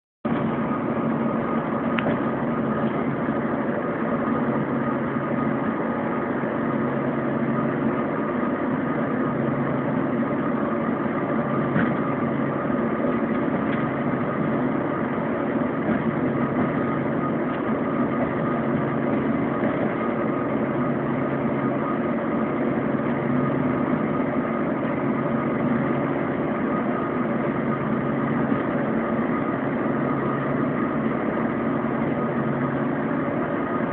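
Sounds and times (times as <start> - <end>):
bus engine drone: 0.2 - 33.9.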